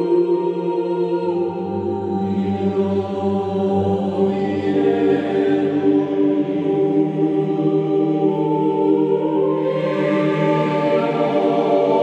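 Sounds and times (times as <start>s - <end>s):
choir singing plainchant: 0.0s - 12.0s.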